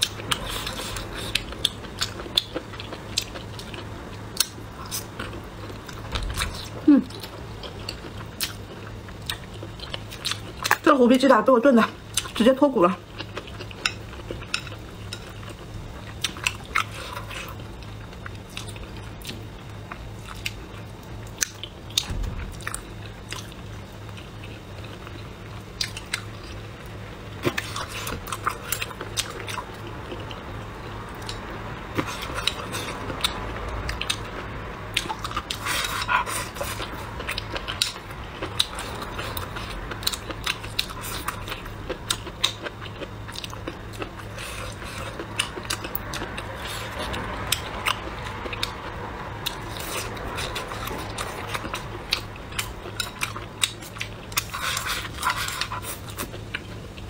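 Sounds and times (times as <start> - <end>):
chewing and biting food: 0.0 - 10.8, 13.0 - 26.6, 27.4 - 30.4, 31.1 - 57.0.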